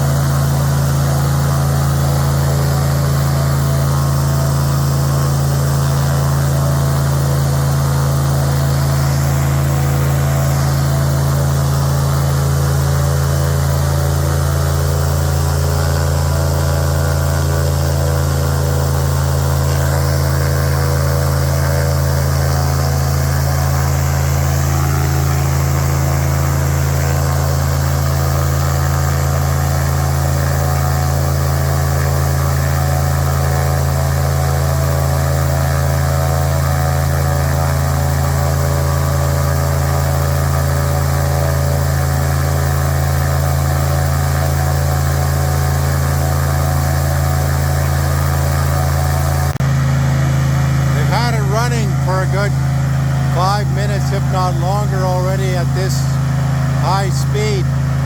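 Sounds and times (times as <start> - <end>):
airboat engine and propeller: 0.0 - 58.0.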